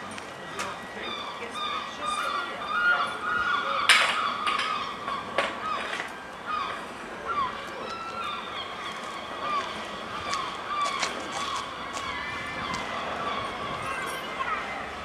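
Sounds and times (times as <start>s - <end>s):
birds calling: 0.4s - 15.0s.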